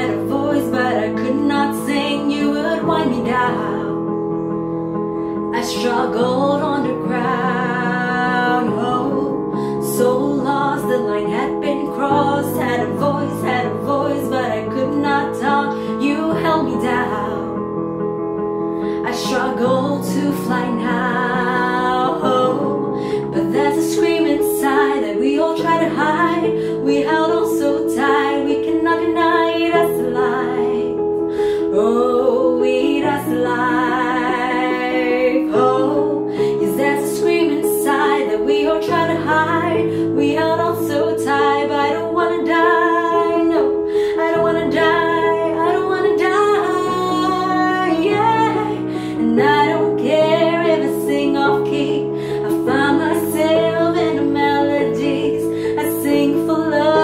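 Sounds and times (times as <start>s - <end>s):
piano chords: 0.0s - 57.0s
woman singing a pop ballad: 0.0s - 57.0s.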